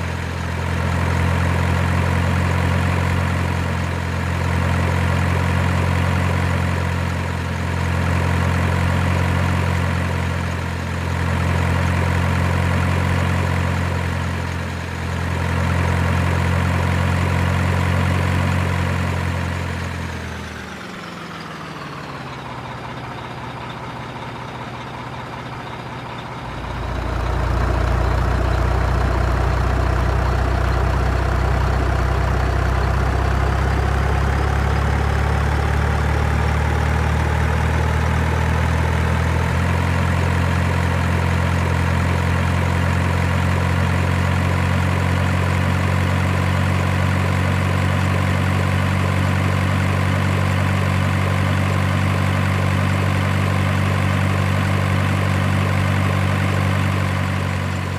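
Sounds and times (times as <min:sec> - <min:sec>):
diesel truck engine idling: 0:00.0 - 0:57.9.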